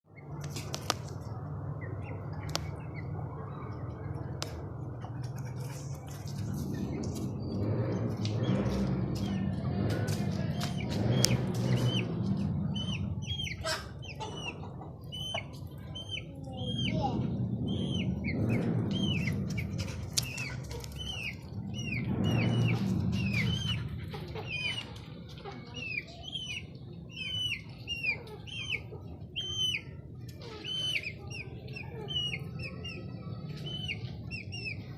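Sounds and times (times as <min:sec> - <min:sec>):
small birds chirping: 0:00.1 - 0:34.9
low rumble: 0:00.2 - 0:34.9
steady low hum: 0:00.2 - 0:34.9.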